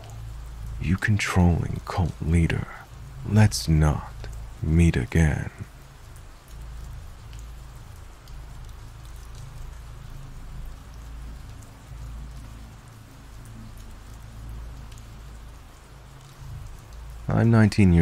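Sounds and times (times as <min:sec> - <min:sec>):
rain drops ticking: 0:00.0 - 0:18.0
steady rain hissing: 0:00.0 - 0:18.0.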